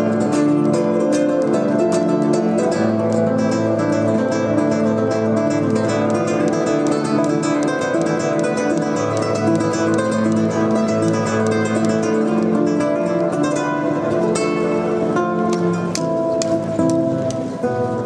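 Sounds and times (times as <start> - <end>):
classical guitar picked fast: 0.0 - 18.0.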